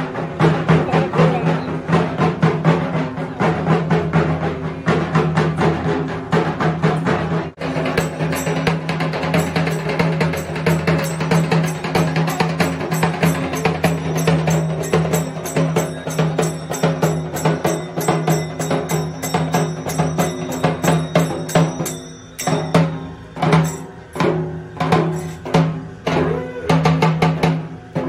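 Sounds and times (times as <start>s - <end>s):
barrel drum beaten in fast rhythm: 0.0s - 28.0s.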